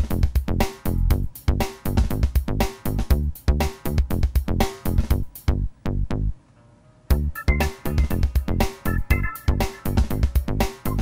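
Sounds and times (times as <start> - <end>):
electronic music with beat: 0.0 - 6.3, 7.1 - 11.0.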